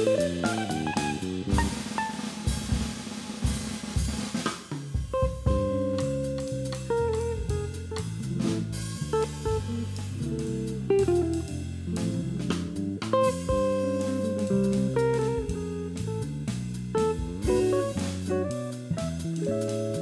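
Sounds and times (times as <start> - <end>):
electric guitar jazz solo: 0.0 - 2.8, 5.1 - 20.0
drum kit: 0.0 - 20.0.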